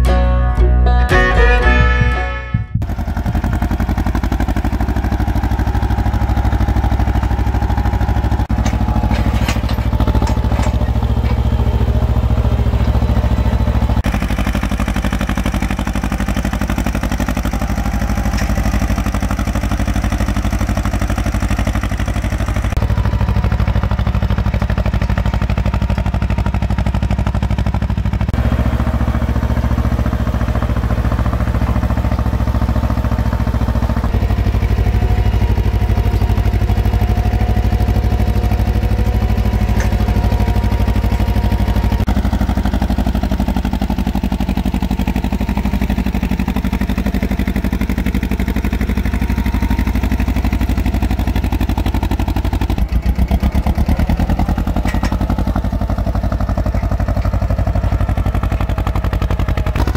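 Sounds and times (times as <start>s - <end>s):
tractor diesel engine under load: 1.1s - 59.9s.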